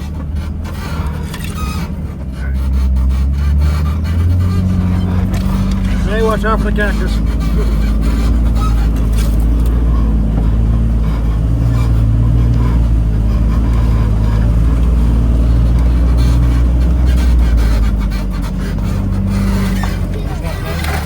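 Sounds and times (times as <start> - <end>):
short scrapes and clicks: 0.0 - 10.1, 11.1 - 21.0
off-road vehicle engine running: 0.0 - 21.0.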